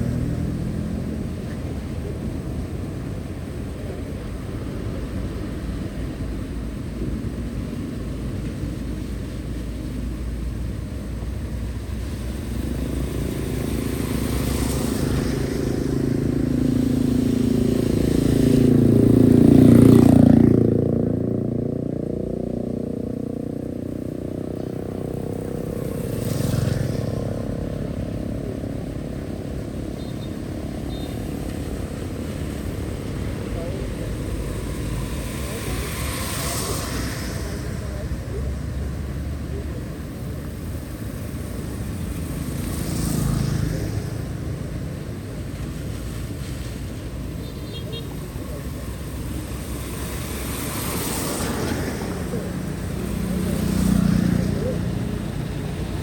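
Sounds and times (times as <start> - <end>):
motor vehicle passing by: 0.0 - 56.0.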